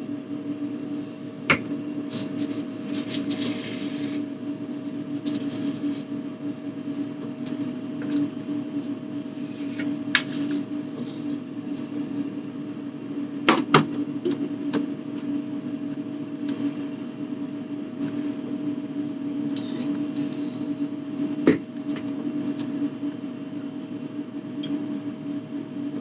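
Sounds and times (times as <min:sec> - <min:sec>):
appliance hum: 0:00.0 - 0:26.0.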